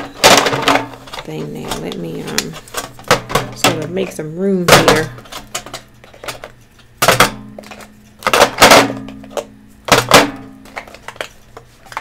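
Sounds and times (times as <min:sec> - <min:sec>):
containers clattering on tabletop: 0:00.0 - 0:12.0.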